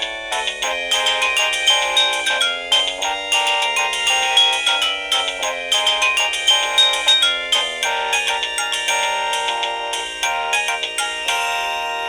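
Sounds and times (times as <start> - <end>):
polyphonic ringtone melody: 0.0 - 12.0.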